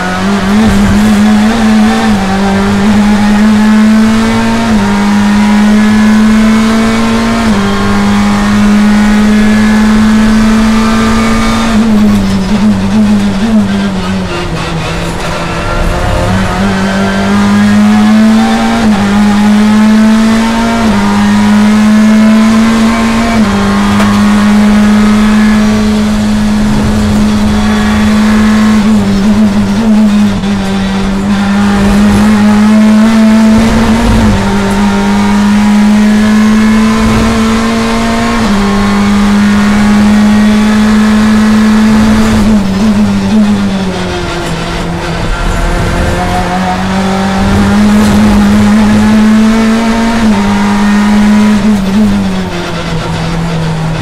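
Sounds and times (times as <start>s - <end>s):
race car engine at full throttle: 0.0s - 54.0s.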